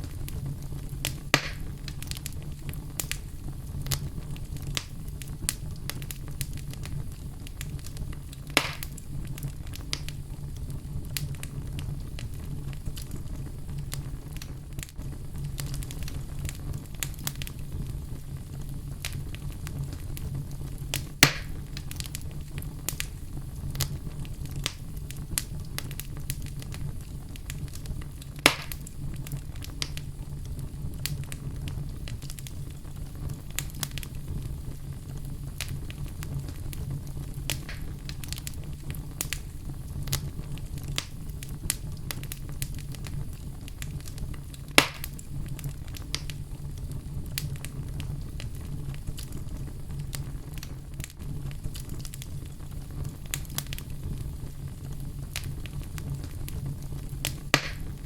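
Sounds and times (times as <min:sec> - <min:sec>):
fire crackles: 0:00.0 - 0:58.0
fire low rumble: 0:00.0 - 0:58.0
wood fire pops: 0:00.0 - 0:58.0.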